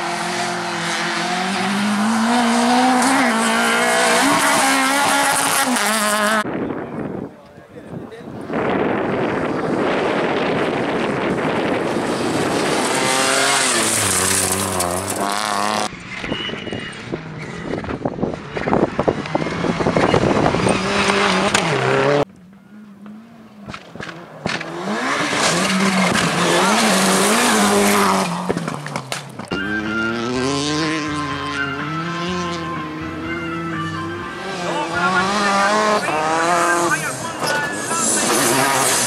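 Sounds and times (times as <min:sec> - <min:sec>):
rally car engines revving: 0:00.0 - 0:06.7, 0:08.3 - 0:39.0.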